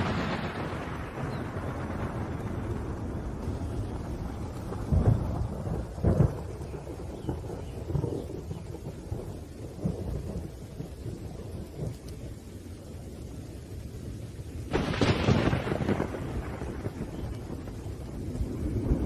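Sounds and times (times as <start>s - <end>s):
sharp thunderclap: 0.0s - 12.4s, 14.7s - 19.0s
rain: 0.0s - 19.0s
thunder rumbling: 0.0s - 19.0s.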